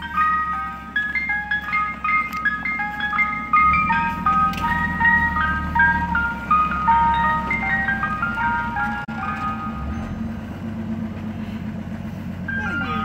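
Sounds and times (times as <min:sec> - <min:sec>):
ice cream truck jingle: 0:00.0 - 0:13.0
truck engine rumble: 0:00.0 - 0:13.0.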